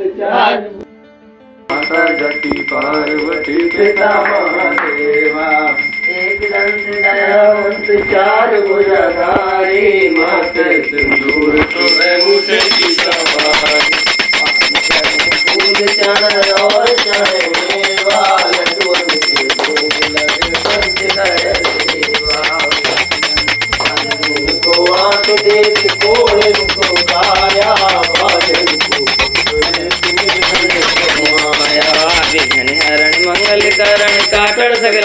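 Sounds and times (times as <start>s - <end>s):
voices singing: 0.0s - 0.8s, 1.7s - 35.0s
small hand bell ringing: 1.7s - 35.0s.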